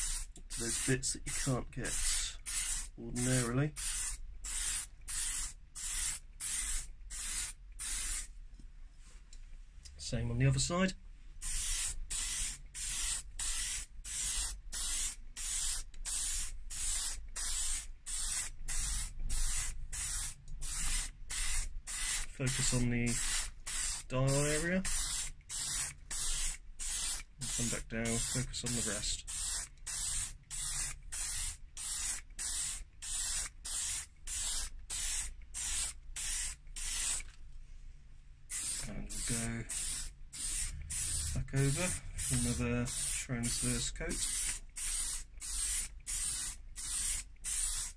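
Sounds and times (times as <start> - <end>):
aerosol spray can hissing: 0.0 - 3.0, 3.8 - 8.3, 11.4 - 37.3, 38.5 - 47.9.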